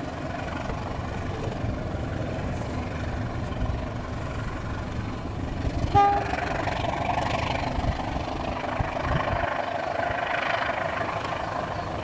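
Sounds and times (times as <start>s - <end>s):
train coaches rolling on rails: 0.0s - 12.0s.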